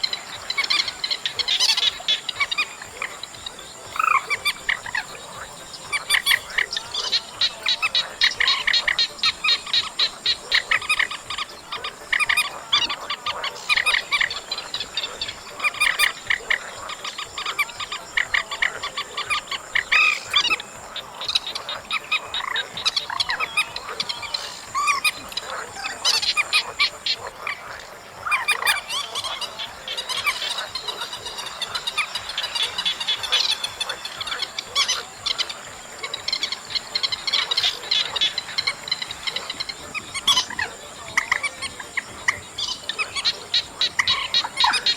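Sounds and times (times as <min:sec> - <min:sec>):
waterbird rattling calls: 0:00.0 - 0:44.9.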